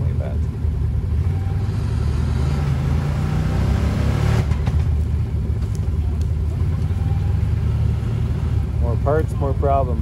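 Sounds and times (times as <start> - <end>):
atv engine revving: 1.0 - 5.0, 5.6 - 10.0.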